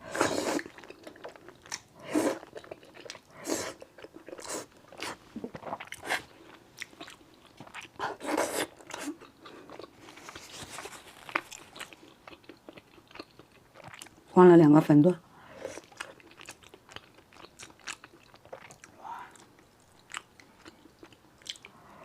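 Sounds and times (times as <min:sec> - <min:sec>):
chewing noodles: 0:00.1 - 0:14.2, 0:15.6 - 0:21.8.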